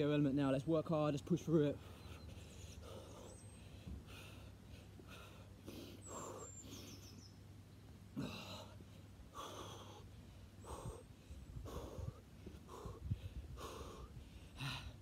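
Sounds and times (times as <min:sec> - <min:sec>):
man breathing hard: 0:01.8 - 0:07.1, 0:08.1 - 0:15.0.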